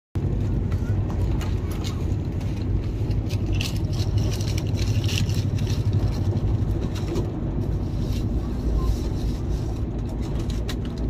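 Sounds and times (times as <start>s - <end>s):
train rumbling: 0.2s - 11.0s.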